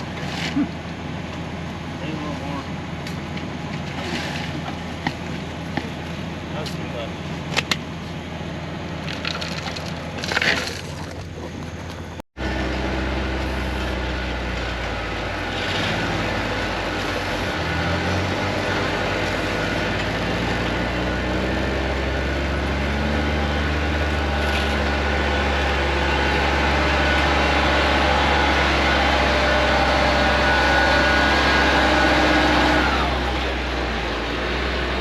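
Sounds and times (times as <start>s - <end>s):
heavy machine engine running: 0.0s - 35.0s.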